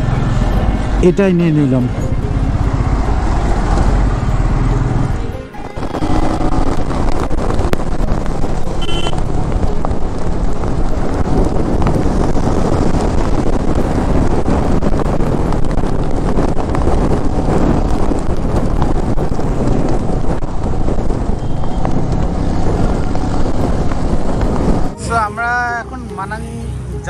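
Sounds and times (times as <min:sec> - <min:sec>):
motorcycle engine and road noise: 0:00.0 - 0:27.0
wind buffeting microphone: 0:02.2 - 0:25.0.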